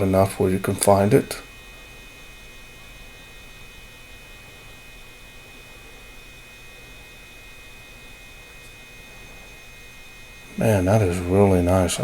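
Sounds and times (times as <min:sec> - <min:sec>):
electrical hum: 0:00.0 - 0:12.0
thin high whine: 0:00.0 - 0:12.0.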